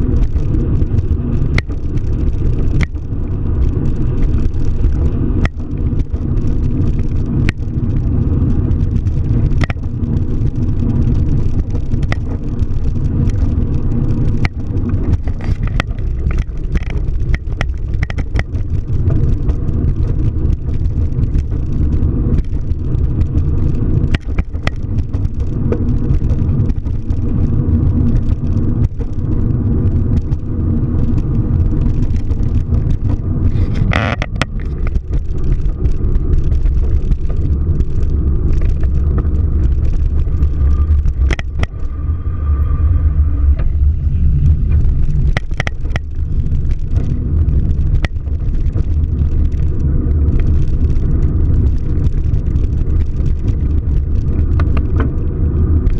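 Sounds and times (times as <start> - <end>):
light ticks and rattles: 0.0 - 42.0, 44.7 - 55.9
car engine and road rumble: 0.0 - 55.9.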